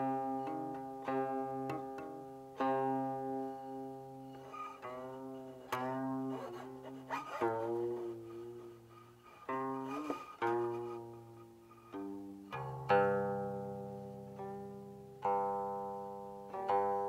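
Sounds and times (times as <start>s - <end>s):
zither plucked notes: 0.0s - 17.0s.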